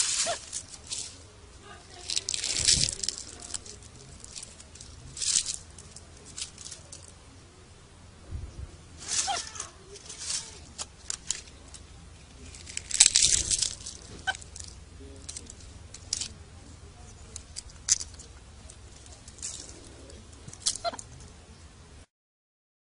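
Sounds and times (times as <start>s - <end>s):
rustles and small crackles: 0.0s - 22.1s.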